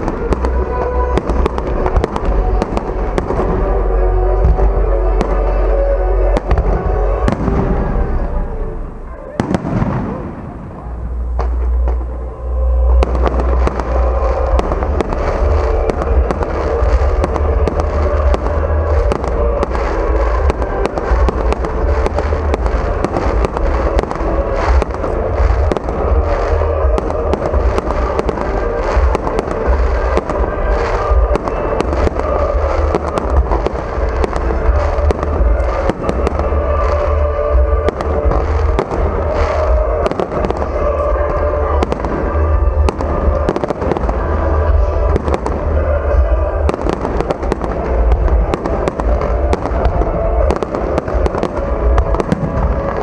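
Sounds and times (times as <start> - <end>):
fireworks crackling and banging: 0.0 - 53.0
low rumble: 0.0 - 53.0.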